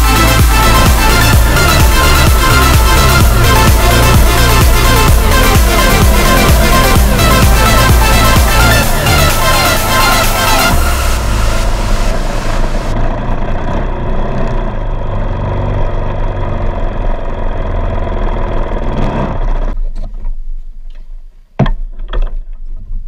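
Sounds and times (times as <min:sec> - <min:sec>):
dirt bike engine running: 0:00.0 - 0:19.8.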